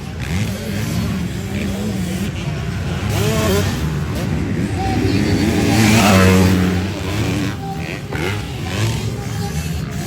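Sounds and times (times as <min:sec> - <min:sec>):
motorcycle engines revving past: 0:00.0 - 0:10.0.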